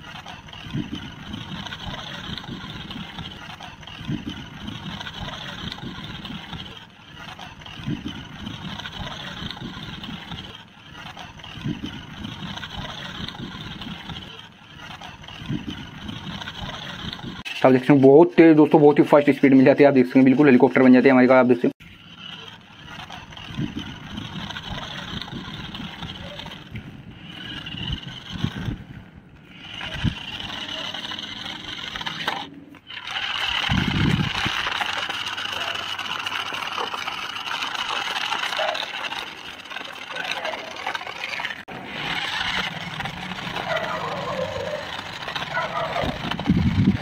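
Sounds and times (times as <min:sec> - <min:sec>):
electric toy car motors whirring: 0:00.0 - 0:47.0
plastic wheels on rough concrete: 0:00.0 - 0:47.0.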